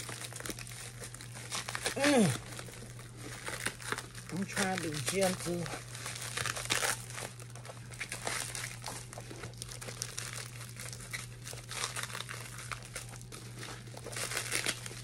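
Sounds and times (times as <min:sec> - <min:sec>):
packing material crinkling: 0:00.0 - 0:15.0
steady low hum: 0:00.0 - 0:15.0.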